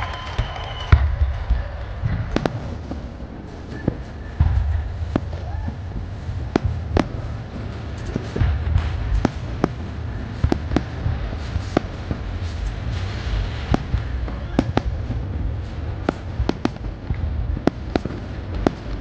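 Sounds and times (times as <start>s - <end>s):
fireworks bangs: 0.0s - 19.0s
low rumble: 0.0s - 19.0s.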